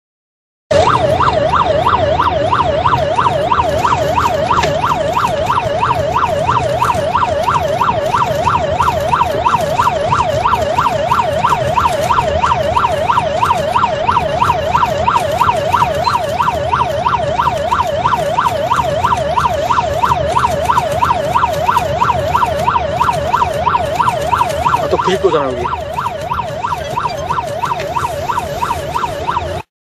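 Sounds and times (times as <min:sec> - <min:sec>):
electronic siren yelping: 0:00.7 - 0:29.7.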